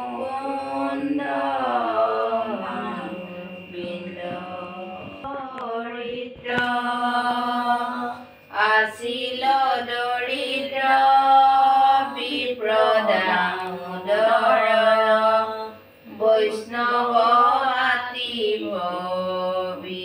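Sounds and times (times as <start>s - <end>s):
women chanting verses: 0.0s - 20.0s.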